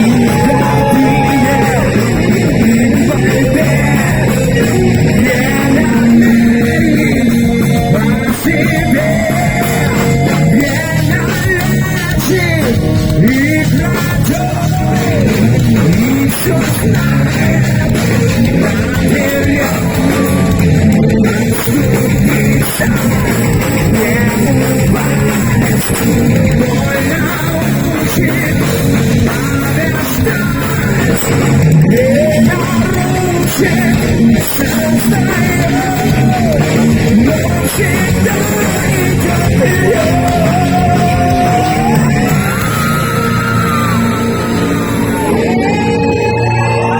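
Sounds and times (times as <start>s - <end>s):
heavy metal band playing live: 0.0s - 46.9s.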